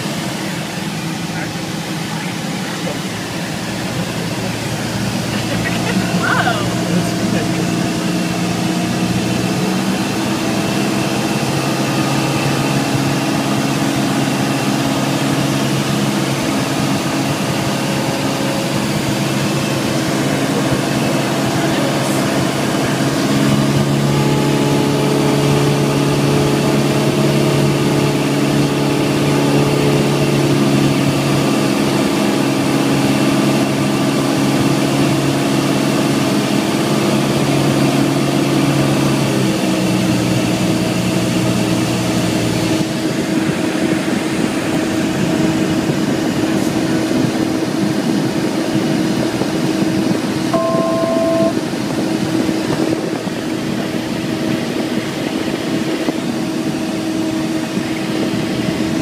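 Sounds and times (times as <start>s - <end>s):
airplane engine droning: 0.0s - 59.0s.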